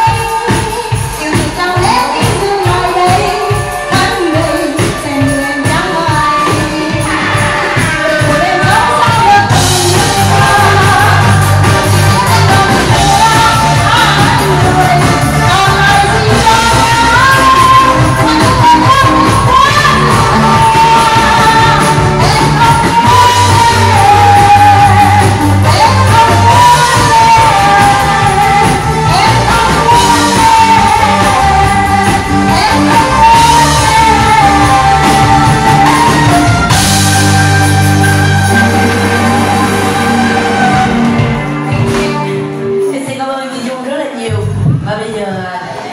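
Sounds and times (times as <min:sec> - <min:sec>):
person singing: 0:00.0 - 0:44.9
live band playing pop dance music: 0:00.0 - 0:45.9.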